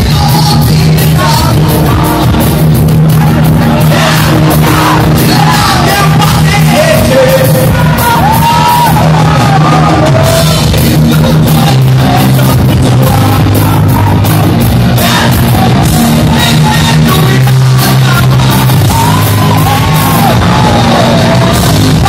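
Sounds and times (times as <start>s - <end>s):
live rock band playing: 0.0s - 22.0s
man singing lead vocal: 0.0s - 22.0s.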